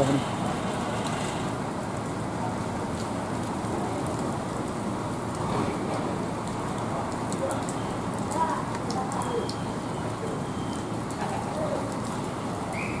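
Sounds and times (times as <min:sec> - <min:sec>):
rain pouring on wet pavement: 0:00.0 - 0:13.0.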